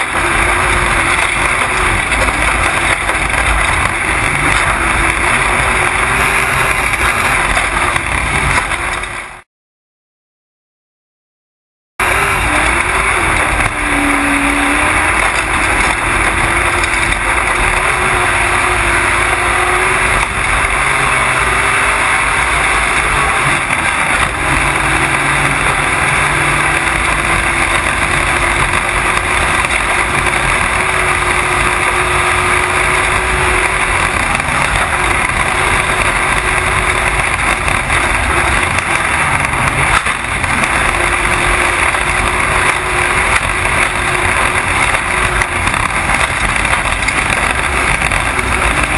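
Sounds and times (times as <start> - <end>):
off-road vehicle engine running hard: 0.0 - 9.5, 12.0 - 48.9.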